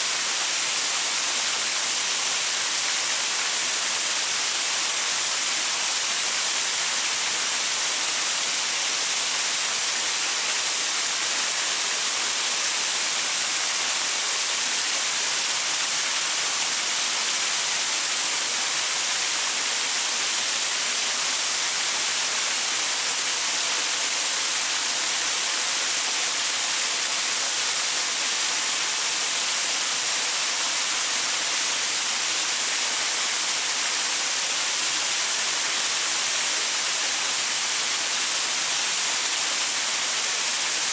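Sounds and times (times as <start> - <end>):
waterfall splashing over rocks: 0.0 - 40.9.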